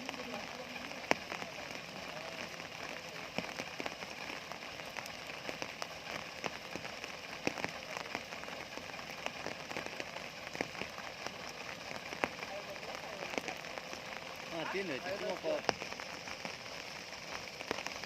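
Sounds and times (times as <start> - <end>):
rain hissing: 0.0 - 18.0
raindrops ticking: 0.0 - 18.0.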